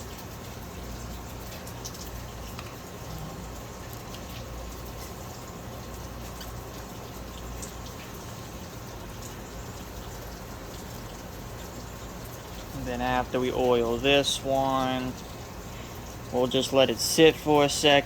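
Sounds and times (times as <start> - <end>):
wet squishing of foam filter: 0.2 - 18.0.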